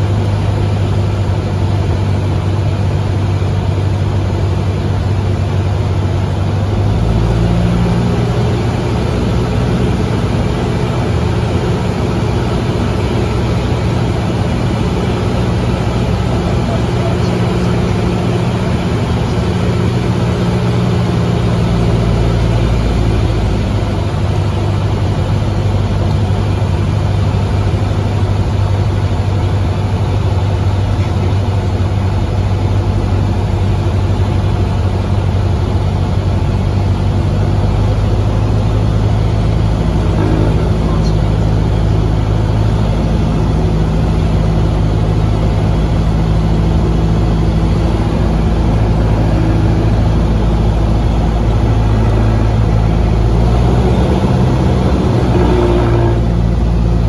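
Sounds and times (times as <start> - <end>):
propeller airplane engine droning: 0.0 - 57.0.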